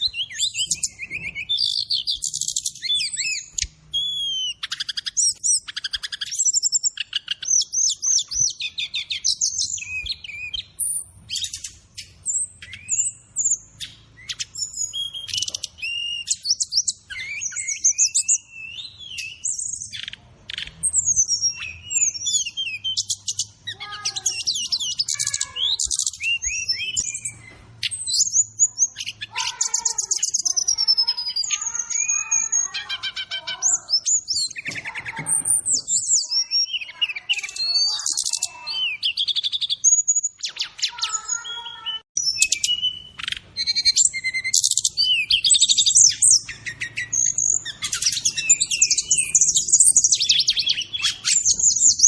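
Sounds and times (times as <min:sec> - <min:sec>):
bird singing whistles and trills: 0:00.0 - 0:52.0.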